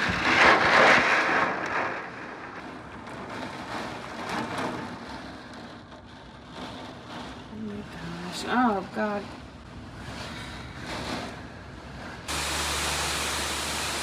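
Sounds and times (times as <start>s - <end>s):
gusting wind: 0.0s - 14.0s
heavy rain: 0.0s - 14.0s.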